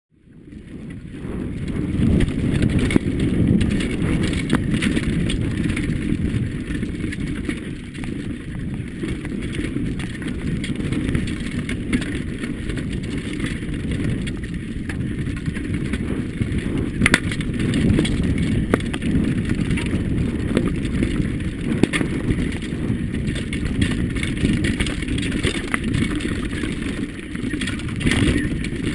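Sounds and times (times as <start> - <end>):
bike rattling and knocking: 0.2 - 28.9
wind buffeting microphone: 0.2 - 28.9
tyres rumbling over stones: 1.6 - 28.9.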